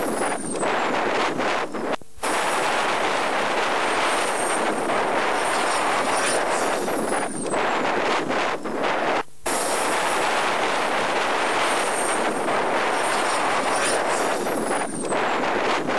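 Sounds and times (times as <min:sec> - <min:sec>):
high turbine whine: 0:00.0 - 0:15.9.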